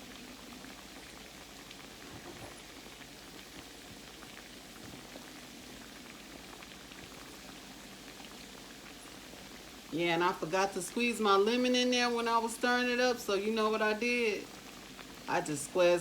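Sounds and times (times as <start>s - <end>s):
croquettes frying in oil: 0.0s - 16.0s.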